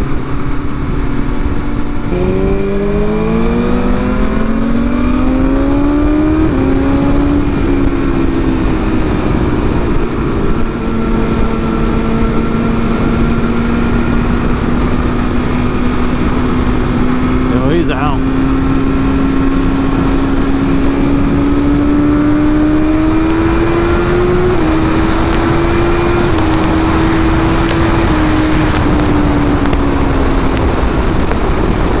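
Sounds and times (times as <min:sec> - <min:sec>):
motorcycle engine accelerating: 0:00.0 - 0:32.0
wind on microphone: 0:00.0 - 0:32.0.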